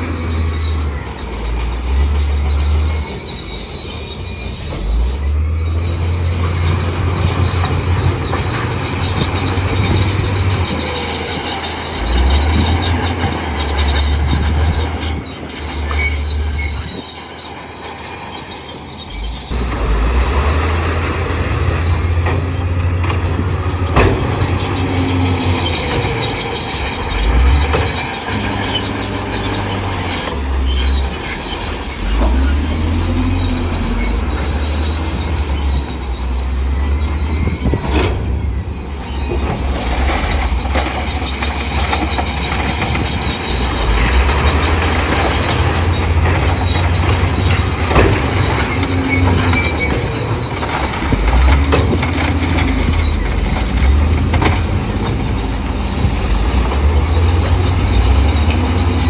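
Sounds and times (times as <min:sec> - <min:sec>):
bulldozer diesel engine rumbling: 0:00.0 - 0:59.0
steel tracks squealing: 0:00.0 - 0:59.0.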